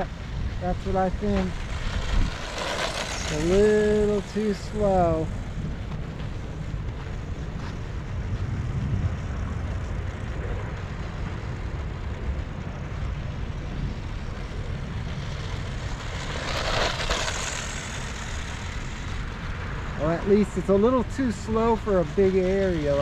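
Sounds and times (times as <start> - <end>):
tyres driving over ground: 0.0 - 23.0
wind on microphone: 0.0 - 23.0
electric rc truck motor: 0.8 - 7.1, 10.8 - 23.0.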